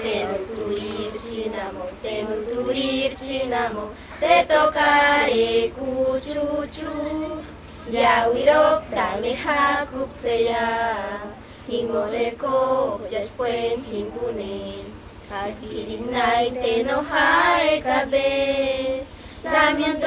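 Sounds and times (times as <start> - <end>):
girls singing in unison: 0.0 - 20.0.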